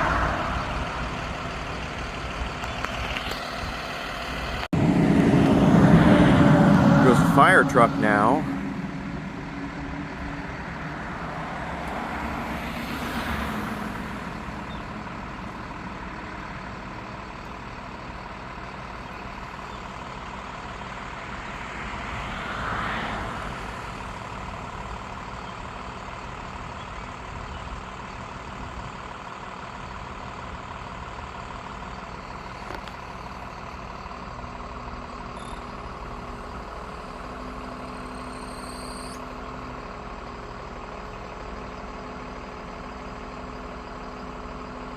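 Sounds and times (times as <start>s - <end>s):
low engine hum: 0.0s - 44.9s
vehicles passing by: 0.0s - 44.9s.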